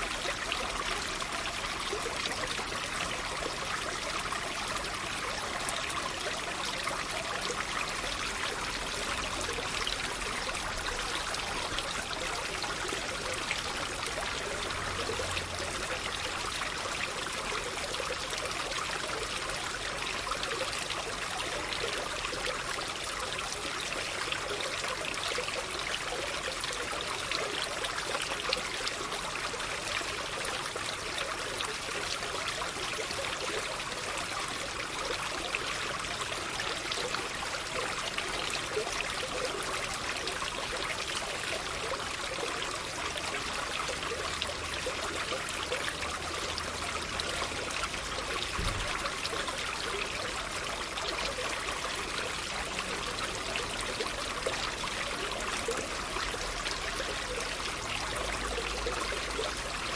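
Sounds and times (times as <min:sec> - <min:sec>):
water trickling and splashing: 0:00.0 - 0:59.9.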